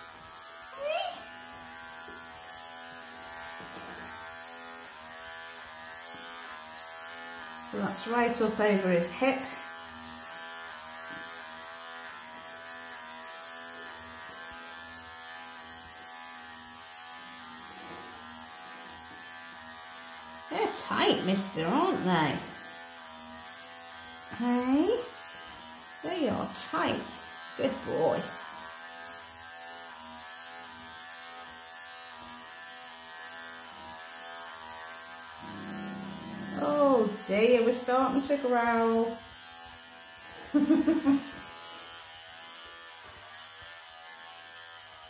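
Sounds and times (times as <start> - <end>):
electric clippers buzzing: 0.0 - 45.0.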